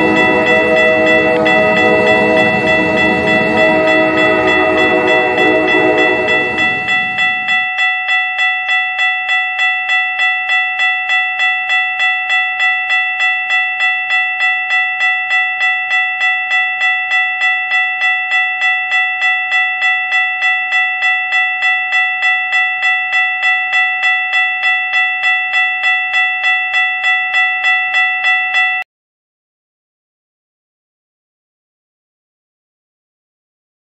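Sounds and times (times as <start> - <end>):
railroad crossing bell ringing: 0.0 - 28.8.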